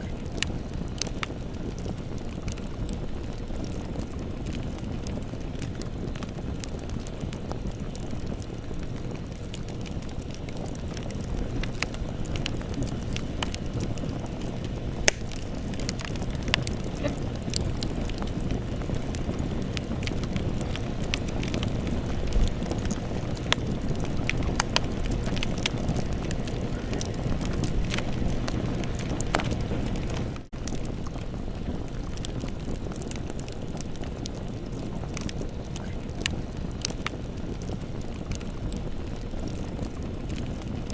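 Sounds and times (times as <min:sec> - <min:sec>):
campfire crackling and popping: 0:00.0 - 0:40.9
low rumble of flame: 0:00.0 - 0:40.9.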